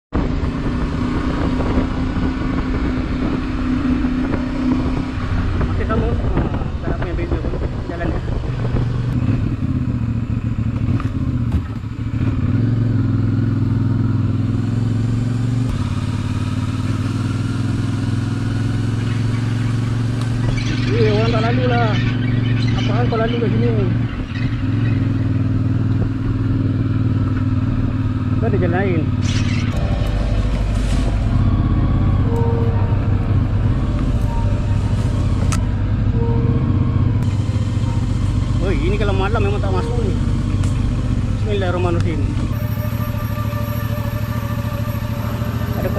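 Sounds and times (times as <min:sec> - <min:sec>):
motorcycle engine running: 0:00.2 - 0:45.9.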